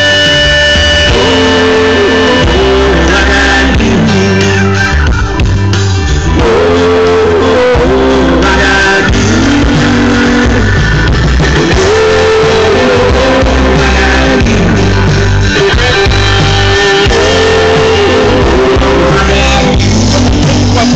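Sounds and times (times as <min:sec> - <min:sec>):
live rock band playing: 0:00.0 - 0:20.9.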